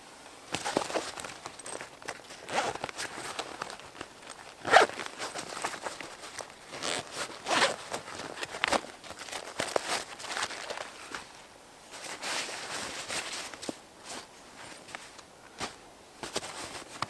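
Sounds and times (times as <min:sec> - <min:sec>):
rustling and scraping: 0:00.5 - 0:17.0.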